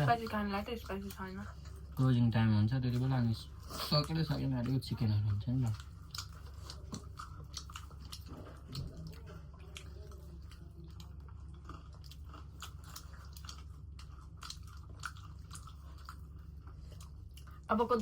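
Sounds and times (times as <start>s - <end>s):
chewing crispy fried chicken: 0.0s - 18.0s
steady low hum: 0.0s - 18.0s.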